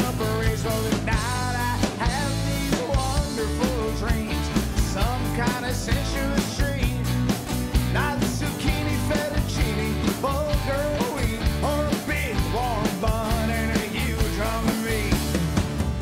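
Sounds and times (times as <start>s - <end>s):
band playing upbeat rock: 0.0s - 16.0s
drum beat: 0.0s - 16.0s
guitar lead line: 0.0s - 16.0s.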